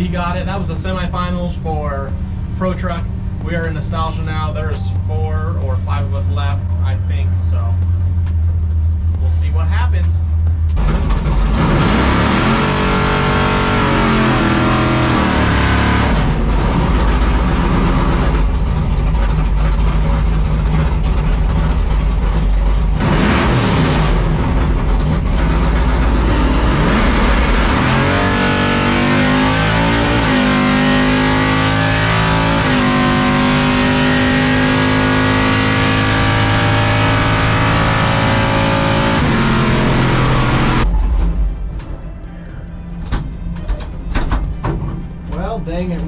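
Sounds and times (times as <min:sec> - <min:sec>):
drag racing engines: 0:00.0 - 0:46.0.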